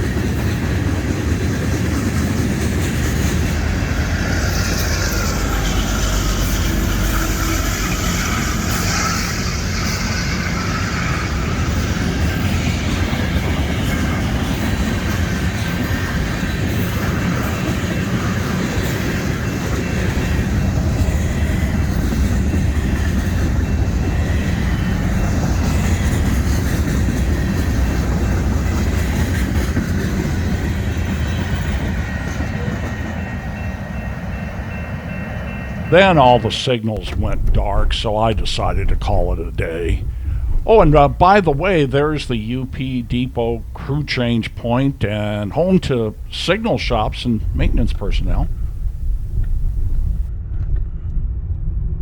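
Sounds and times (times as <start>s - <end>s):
train cars rumbling and rattling: 0.0s - 52.0s.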